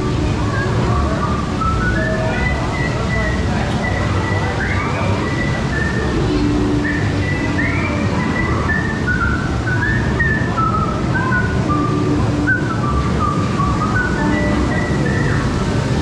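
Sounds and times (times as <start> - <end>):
whistled tune: 0.0 - 16.0.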